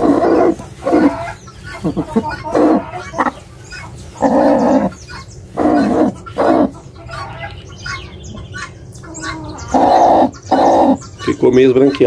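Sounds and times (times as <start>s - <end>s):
hen growling: 0.0s - 7.6s, 8.2s - 12.0s.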